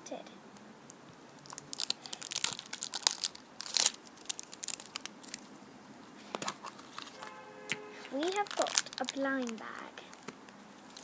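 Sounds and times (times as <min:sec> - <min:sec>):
plastic wrapper crinkling: 0:01.1 - 0:05.5, 0:06.4 - 0:11.0.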